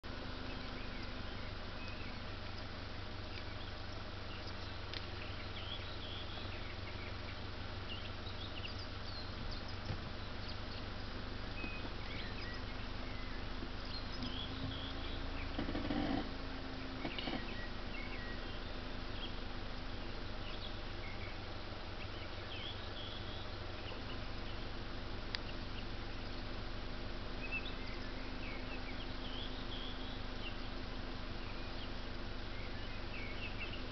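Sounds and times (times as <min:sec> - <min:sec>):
small birds chirping: 0:00.0 - 0:33.9
steady low hum: 0:00.0 - 0:33.9.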